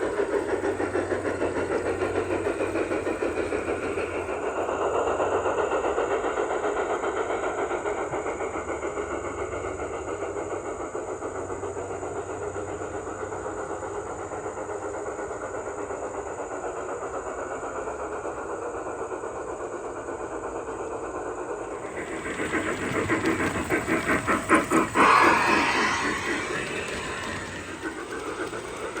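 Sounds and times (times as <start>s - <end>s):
model train mechanical chatter: 0.0s - 29.0s.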